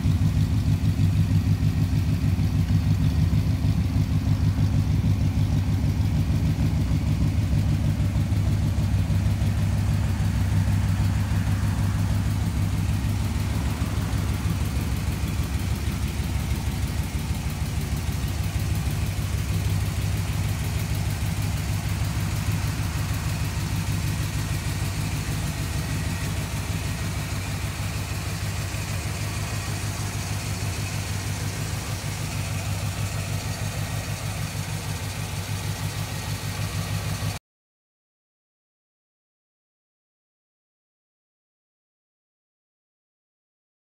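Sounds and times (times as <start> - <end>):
pickup engine idling: 0.0 - 37.4.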